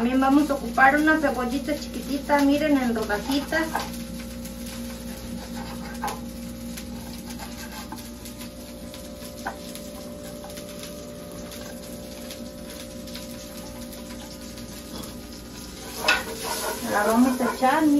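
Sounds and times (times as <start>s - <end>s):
butter sizzling: 0.0s - 17.9s.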